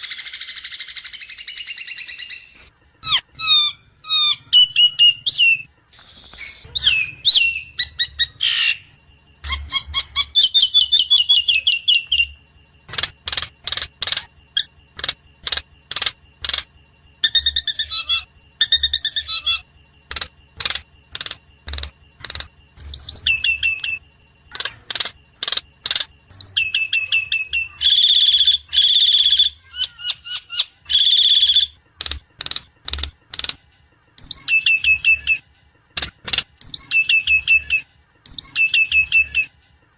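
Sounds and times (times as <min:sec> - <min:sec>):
harsh rasping bird calls: 0:00.0 - 0:33.5.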